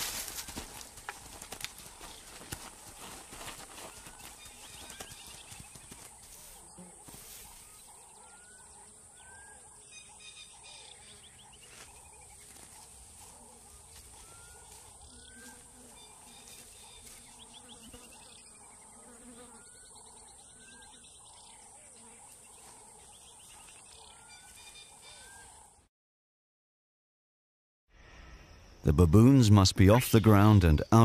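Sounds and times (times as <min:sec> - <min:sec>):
insects droning: 0:00.0 - 0:25.6
birds calling: 0:00.0 - 0:25.8.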